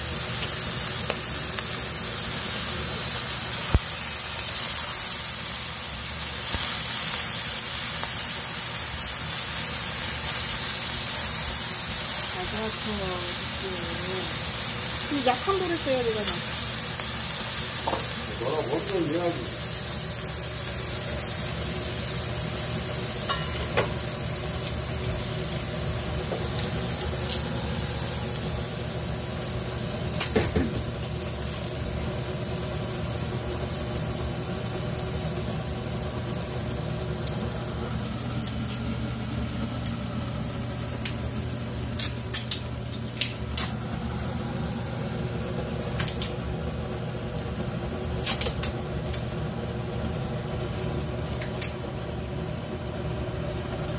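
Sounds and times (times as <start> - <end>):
meat sizzling in a frying pan: 0.0 - 53.9.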